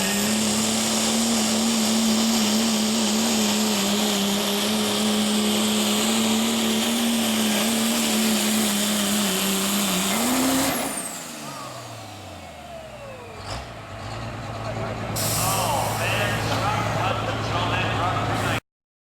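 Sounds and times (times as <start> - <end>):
diesel truck engine at high revs: 0.0 - 18.6.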